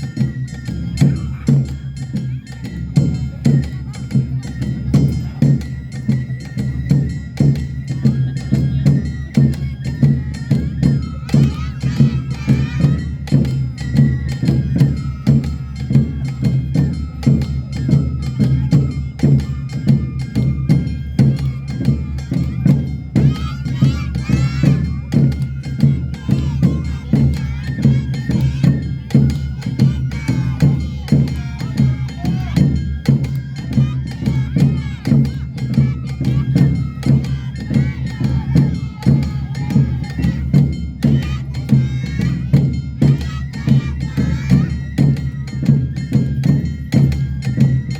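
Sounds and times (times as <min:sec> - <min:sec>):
taiko drums: 0:00.0 - 0:47.9.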